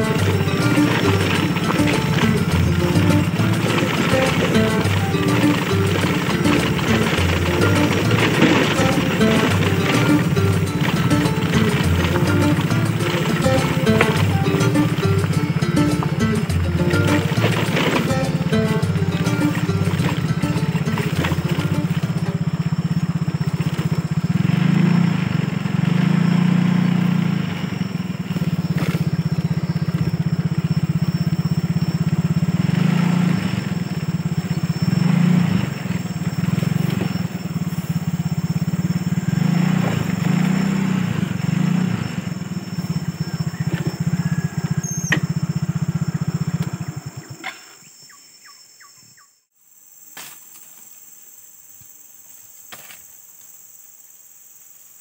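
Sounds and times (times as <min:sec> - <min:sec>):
small engine running: 0:00.0 - 0:47.6
faint outdoor background: 0:00.0 - 0:55.0.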